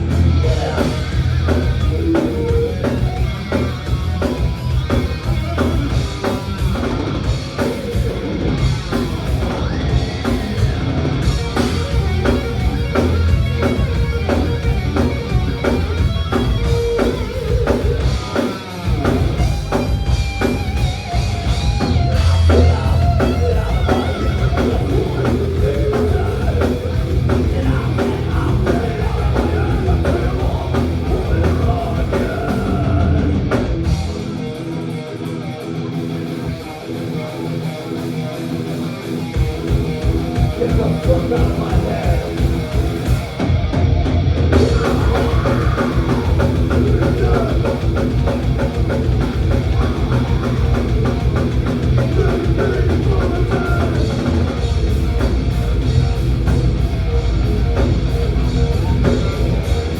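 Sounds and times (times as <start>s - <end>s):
thrash metal band playing: 0.0s - 59.9s.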